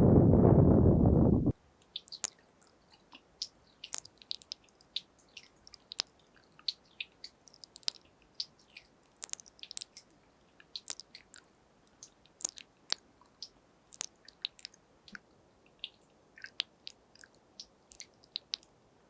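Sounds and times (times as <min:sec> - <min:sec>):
wet tongue and lip clicks: 0:01.8 - 0:18.8.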